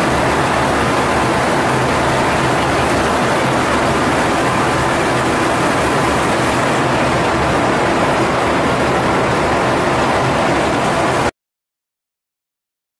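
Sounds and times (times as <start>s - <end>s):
jet engine and airflow rush: 0.0s - 11.3s.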